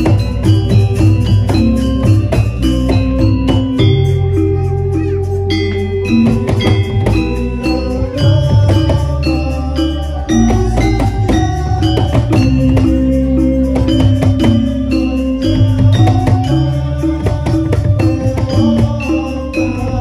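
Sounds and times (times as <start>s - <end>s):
gamelan metallophones: 0.0s - 20.0s
heavy drumming: 0.0s - 20.0s.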